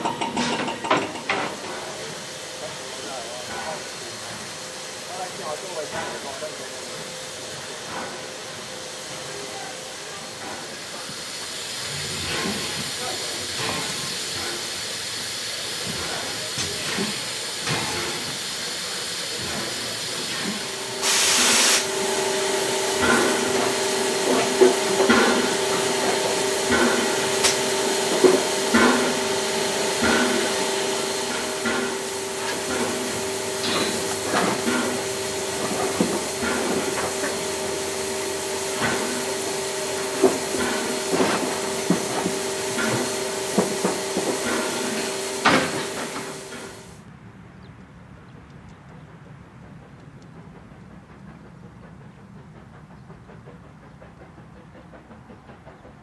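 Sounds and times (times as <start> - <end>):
hiss of escaping steam: 0.3 - 47.0.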